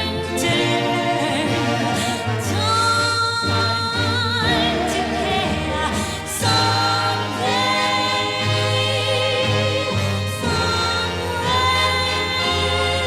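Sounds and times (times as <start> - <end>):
female vocal group singing ballad: 0.0 - 13.0
orchestra playing: 0.0 - 13.0.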